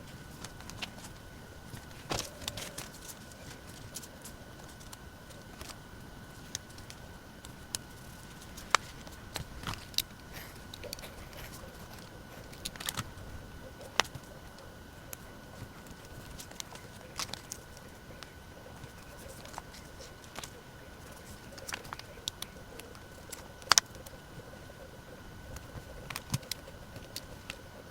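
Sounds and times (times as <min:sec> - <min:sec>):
faint high hum: 0:00.0 - 0:27.9.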